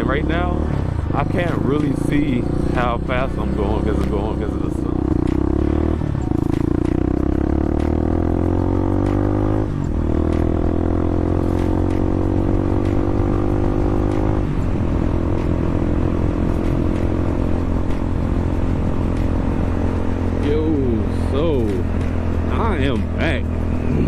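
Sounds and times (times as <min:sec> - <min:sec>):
dirt bike engine accelerating: 0:00.0 - 0:24.0.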